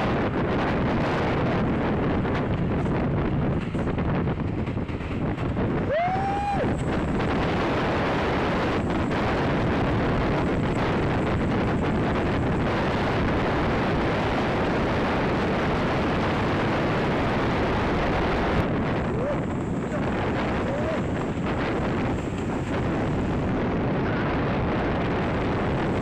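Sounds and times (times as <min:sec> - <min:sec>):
vehicle and road noise: 0:00.0 - 0:26.0
wind buffeting microphone: 0:00.0 - 0:26.0.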